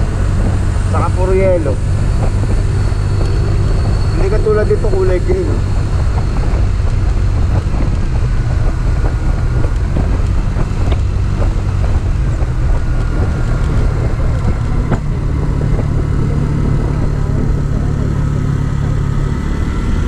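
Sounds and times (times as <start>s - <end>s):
scooter engine running: 0.0s - 20.0s
wind rumbling on microphone: 0.0s - 20.0s.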